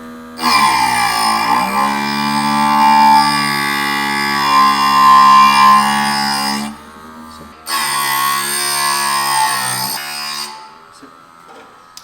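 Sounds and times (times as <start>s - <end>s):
sharpening grinder whining: 0.4s - 11.5s.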